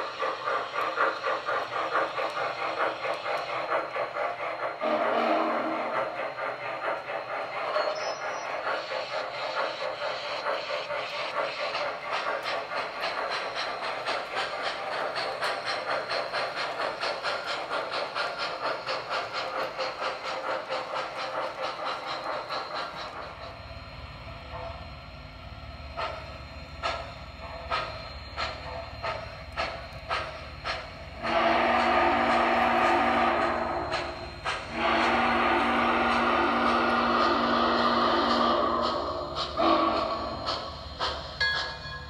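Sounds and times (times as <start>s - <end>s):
hiss: 0.0s - 42.0s
model train rhythmic clicking: 0.0s - 42.0s.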